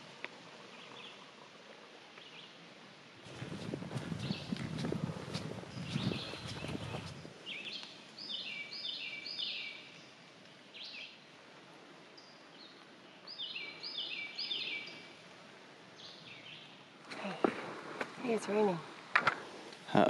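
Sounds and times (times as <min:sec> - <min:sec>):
faint forest background hiss: 0:00.0 - 0:20.0
songbird singing: 0:00.0 - 0:20.0.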